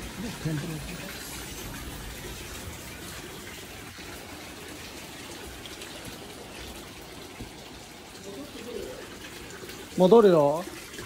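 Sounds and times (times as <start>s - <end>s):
water pouring into stone bath: 0.0s - 11.0s.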